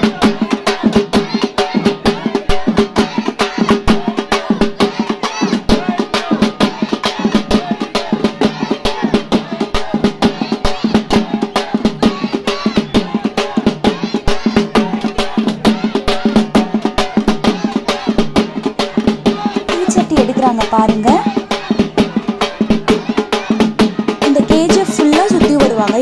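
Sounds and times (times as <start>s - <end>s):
drum band playing fast: 0.0s - 26.0s.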